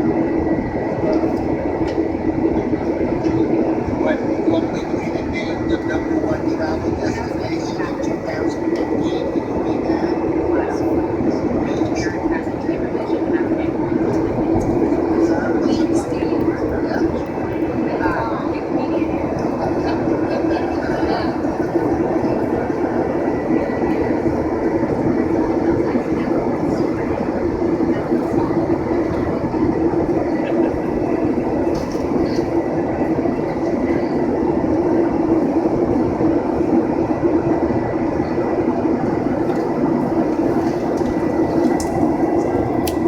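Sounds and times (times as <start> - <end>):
airplane cabin engine drone: 0.0 - 43.0.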